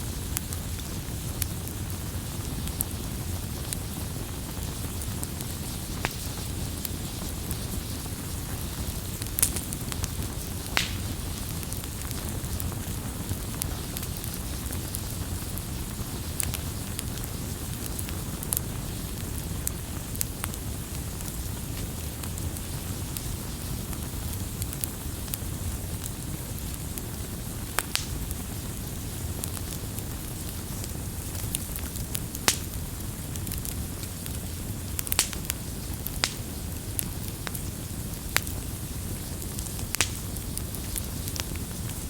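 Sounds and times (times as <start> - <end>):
campfire crackling and popping: 0.0 - 42.0
low rush of burning wood: 0.0 - 42.0.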